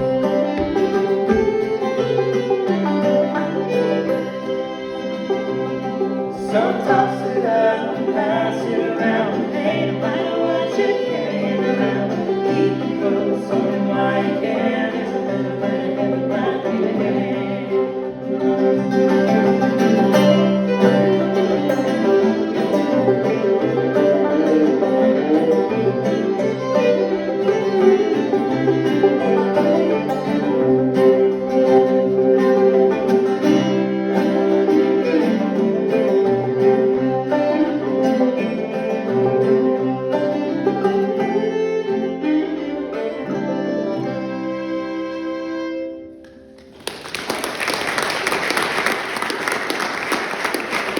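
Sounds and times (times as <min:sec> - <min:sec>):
string band playing: 0:00.0 - 0:50.9.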